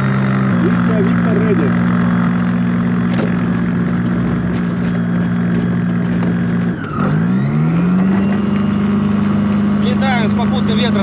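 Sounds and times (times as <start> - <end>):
propeller engine running: 0.0 - 11.0.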